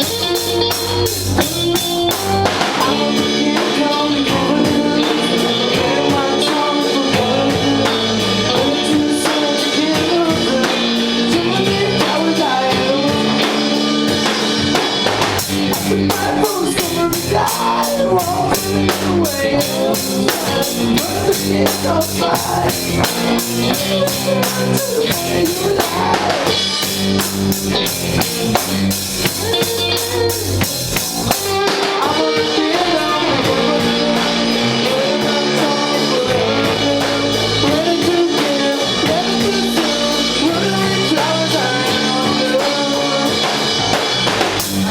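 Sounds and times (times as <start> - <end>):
person singing: 0.0 - 27.4, 29.2 - 44.9
drum kit: 0.0 - 44.9
guitar: 0.0 - 44.9.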